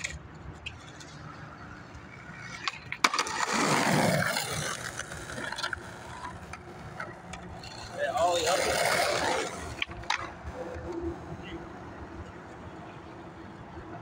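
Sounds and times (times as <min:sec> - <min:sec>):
skateboard clacking: 0:00.0 - 0:12.6
skateboard wheels rolling on pavement: 0:00.0 - 0:14.0.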